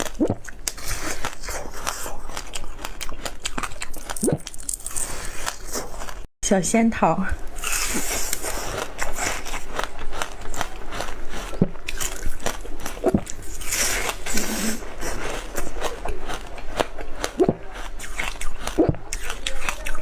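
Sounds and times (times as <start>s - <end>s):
biting and crunching ice: 0.0s - 6.3s, 7.6s - 20.0s.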